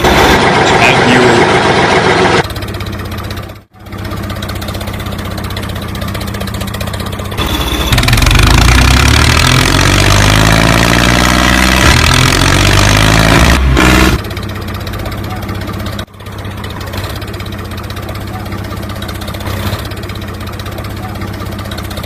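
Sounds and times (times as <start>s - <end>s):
engine working under load: 0.0s - 22.0s
tractor engine running: 0.0s - 22.0s.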